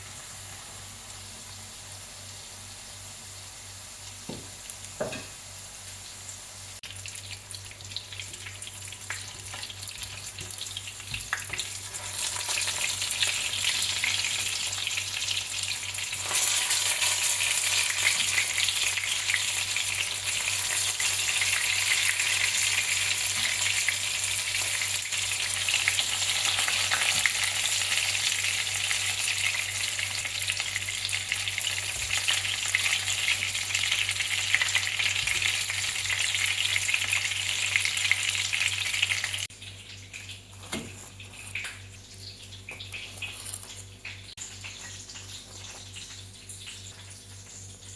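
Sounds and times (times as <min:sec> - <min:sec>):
fish deep-frying in hot oil: 0:00.0 - 0:47.9.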